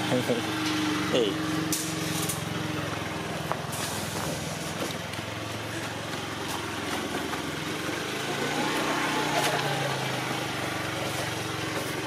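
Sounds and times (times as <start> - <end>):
road noise: 0.0 - 12.0
scooter engine humming: 0.0 - 12.0.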